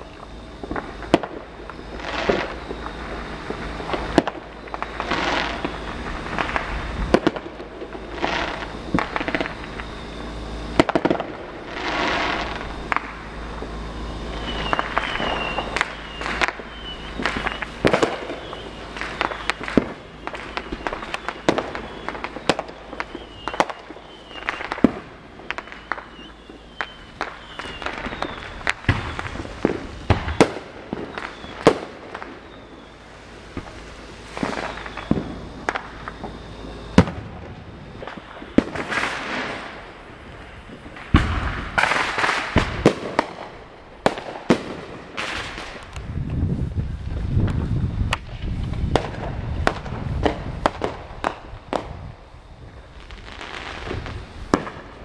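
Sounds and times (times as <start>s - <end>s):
firecracker bangs: 0.0s - 32.9s, 33.5s - 46.4s, 47.1s - 52.2s
fireworks noisy bursts: 0.0s - 55.0s.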